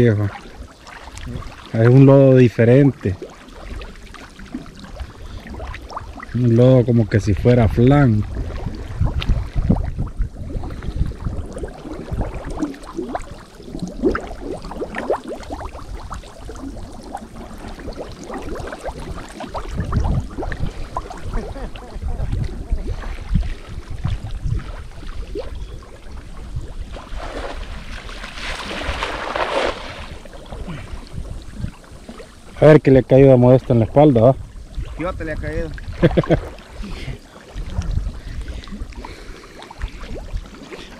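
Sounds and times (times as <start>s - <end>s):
muddy water sloshing and splashing: 0.0s - 32.7s, 33.9s - 40.9s.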